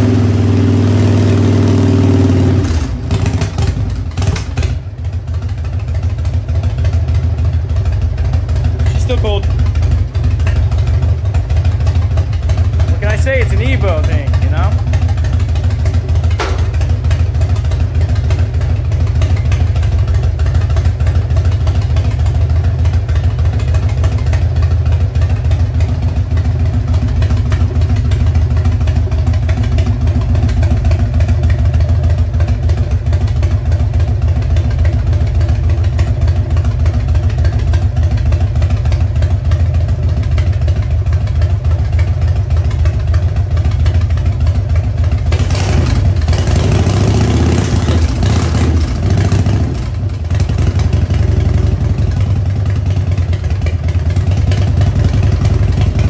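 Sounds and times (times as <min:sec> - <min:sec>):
motorcycle engine idling: 0:02.7 - 0:56.0.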